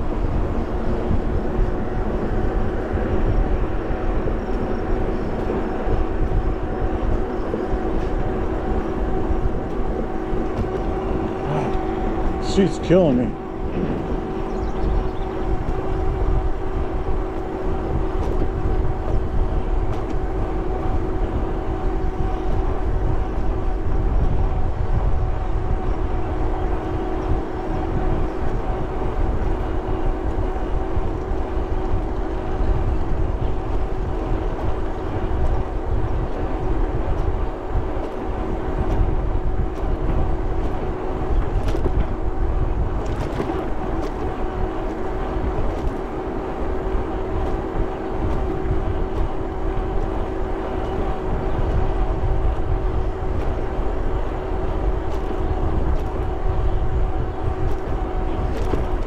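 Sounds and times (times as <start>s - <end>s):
electric bike motor hum: 0.0s - 59.0s
wind rumble on microphone: 0.0s - 59.0s.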